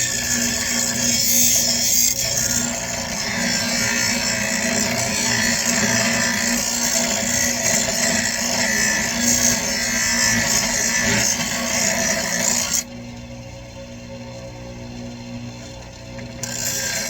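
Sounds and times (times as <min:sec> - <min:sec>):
handheld power tool running: 0:00.0 - 0:12.9, 0:16.2 - 0:17.0.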